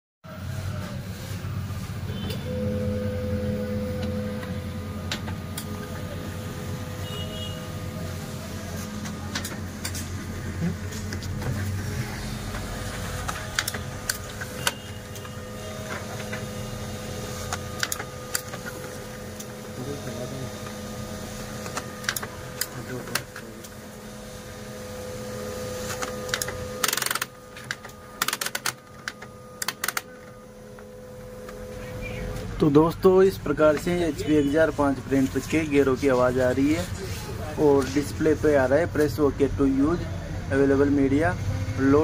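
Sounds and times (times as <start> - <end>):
printer gear whir: 0.4 - 42.0.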